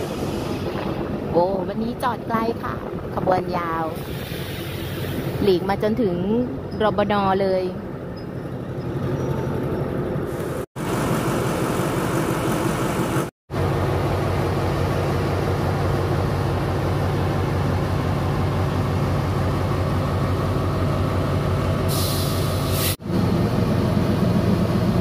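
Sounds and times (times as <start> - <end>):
diesel locomotive engine humming: 0.0 - 25.0.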